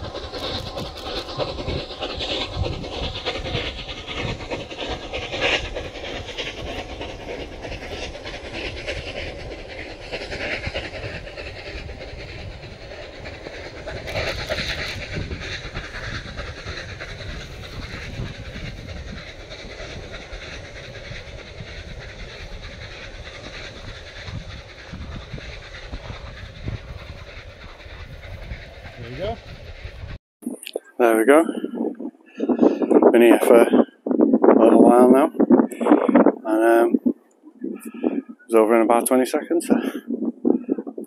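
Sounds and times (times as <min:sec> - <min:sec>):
train wheels rumbling on rails: 0:00.0 - 0:30.2, 0:31.0 - 0:41.0.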